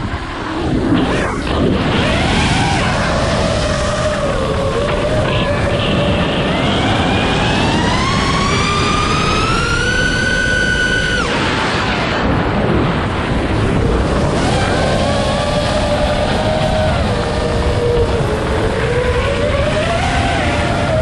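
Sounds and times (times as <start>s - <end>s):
drone motors whining: 0.0s - 21.0s
rushing noise: 0.0s - 21.0s.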